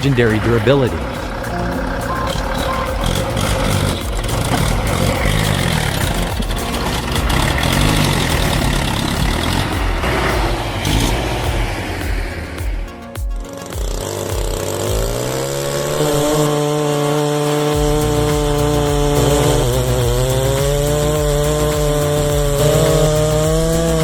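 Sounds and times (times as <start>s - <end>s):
tractor diesel engine revving: 0.0s - 12.6s, 14.0s - 24.0s.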